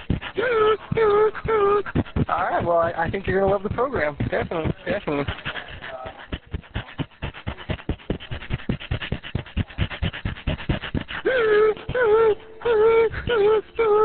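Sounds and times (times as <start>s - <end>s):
man imitating dog panting: 0.0s - 14.0s.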